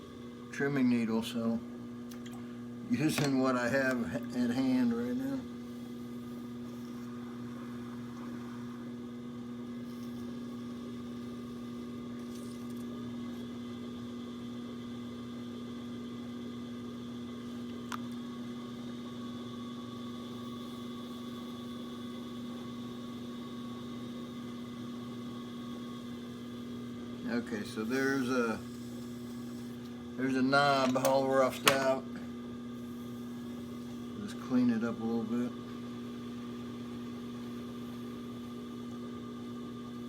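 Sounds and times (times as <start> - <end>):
potter's wheel motor hum: 0.0 - 40.0.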